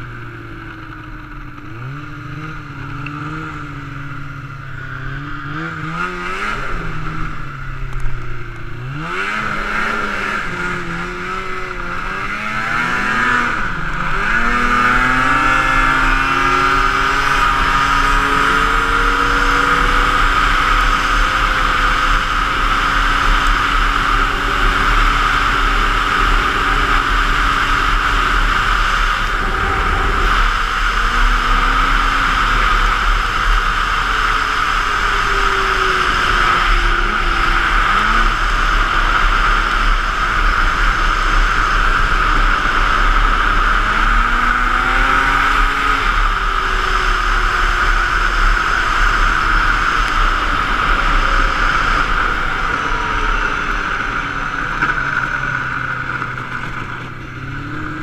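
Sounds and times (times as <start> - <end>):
snowmobile engine and track: 0.0 - 58.0
wind rush on microphone: 6.3 - 58.0.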